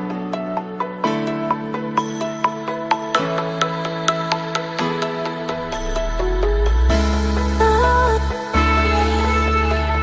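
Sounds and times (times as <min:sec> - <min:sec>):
bright melody over held chords: 0:00.0 - 0:10.0.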